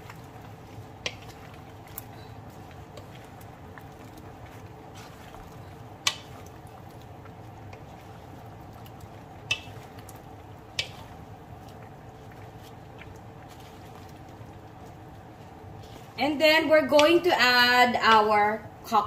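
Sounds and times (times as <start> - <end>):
spatula stirring vegetables in wok: 0.0 - 17.4
steady low hum: 0.0 - 19.0.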